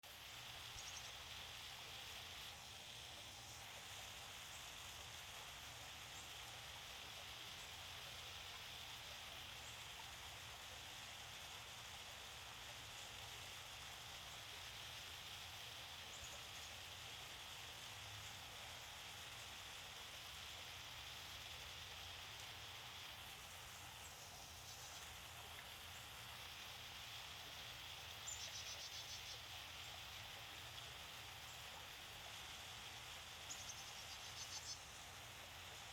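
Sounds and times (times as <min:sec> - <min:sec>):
small waterfall rushing: 0:00.0 - 0:35.9.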